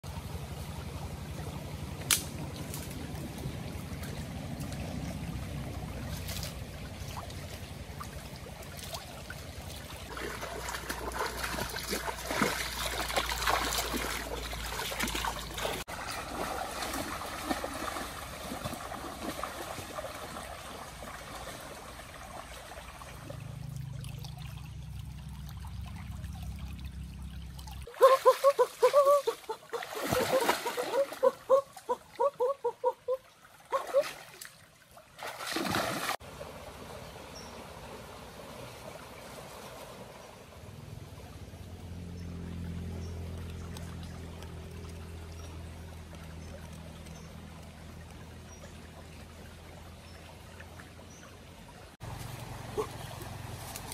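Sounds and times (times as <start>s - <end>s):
stream trickling: 0.0s - 53.9s
splashes of wading in water: 0.1s - 53.9s.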